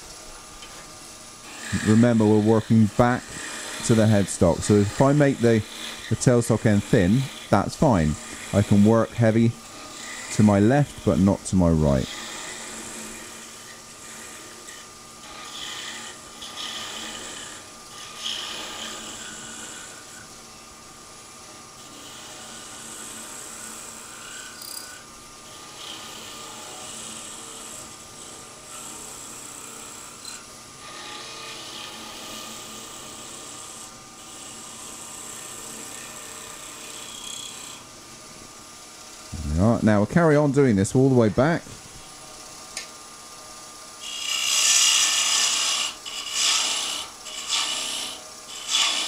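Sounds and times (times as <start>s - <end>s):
chisel cutting wood hiss: 0.0s - 20.4s, 21.8s - 37.9s, 43.9s - 49.0s
wood lathe humming: 0.0s - 49.0s.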